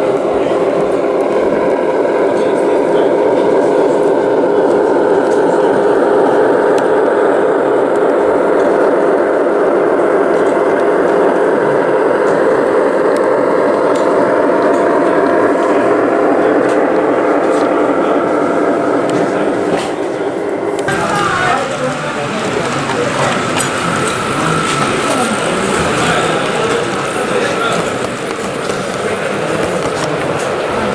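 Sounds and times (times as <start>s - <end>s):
crowd chatter: 0.0s - 30.9s.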